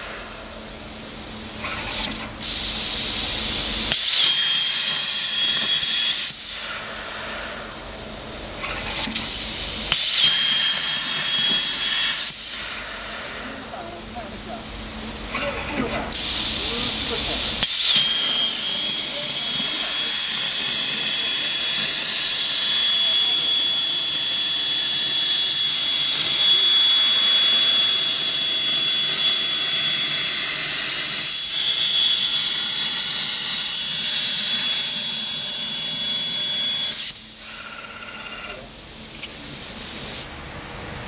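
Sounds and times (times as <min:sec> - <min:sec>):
plasma torch hissing with high whine: 0:00.0 - 0:37.7, 0:38.4 - 0:40.5.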